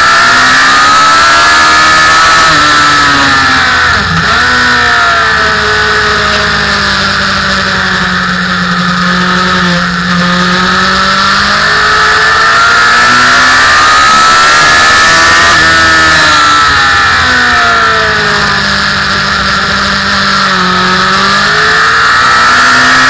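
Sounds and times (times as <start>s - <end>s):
motorcycle engine: 0.0s - 23.0s.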